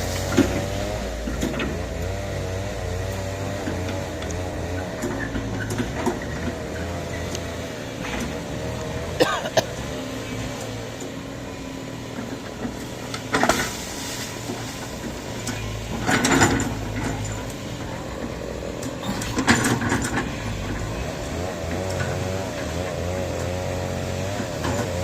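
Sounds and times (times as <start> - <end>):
excavator running: 0.0 - 25.0.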